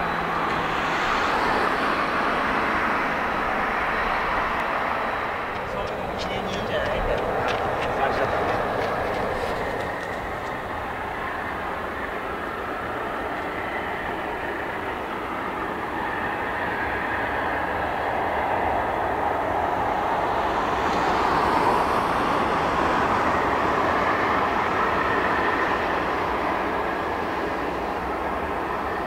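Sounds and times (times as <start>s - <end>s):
jet engines at taxi power: 0.0s - 29.0s.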